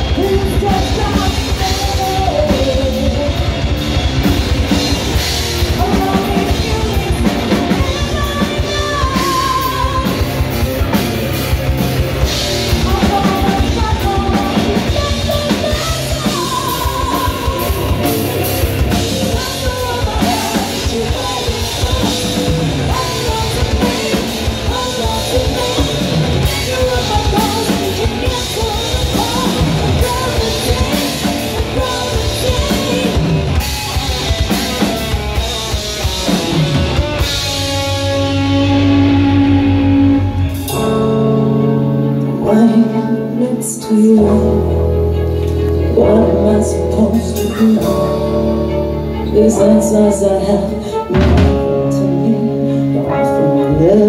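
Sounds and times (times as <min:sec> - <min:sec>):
heavy metal band playing: 0:00.0 - 0:54.0
person singing: 0:00.0 - 0:54.0.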